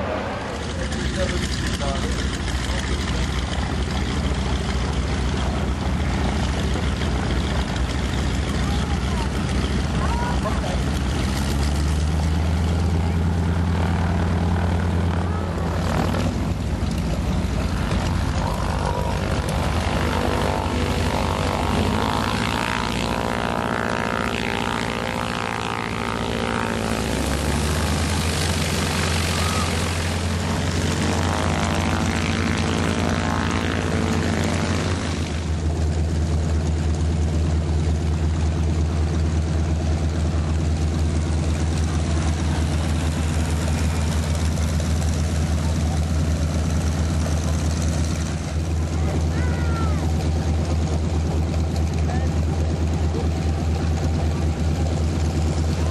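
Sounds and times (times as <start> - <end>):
propeller planes droning overhead: 0.0 - 55.9.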